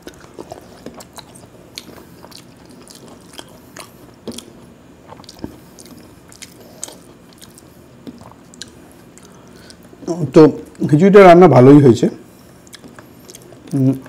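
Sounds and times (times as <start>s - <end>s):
person chewing food: 0.0s - 10.8s, 12.3s - 14.0s.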